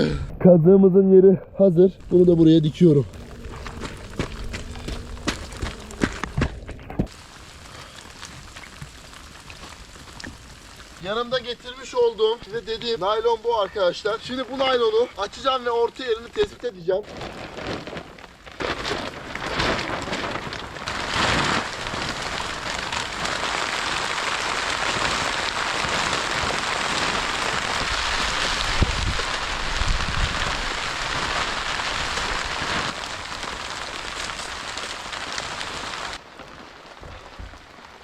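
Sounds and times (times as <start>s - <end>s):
heavy rain falling: 2.0s - 16.2s, 19.4s - 38.0s.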